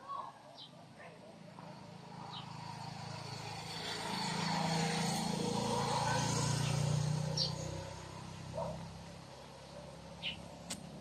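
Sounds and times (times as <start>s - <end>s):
vehicle engine passing: 1.4s - 11.0s.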